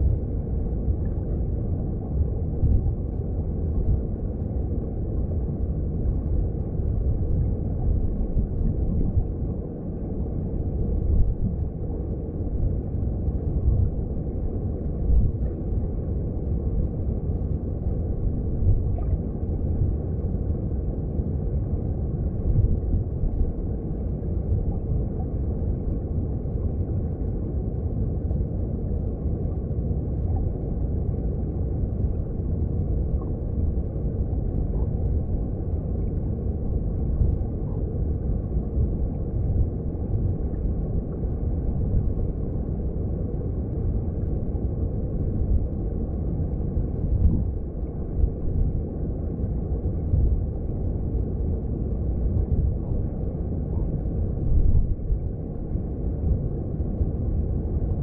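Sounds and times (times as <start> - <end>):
muffled underwater stream flow: 0.0 - 58.0.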